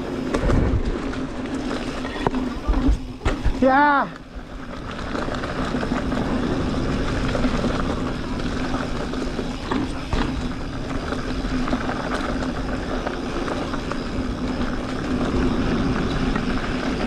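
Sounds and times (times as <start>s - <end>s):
tyre and trail rumble: 0.0s - 17.0s.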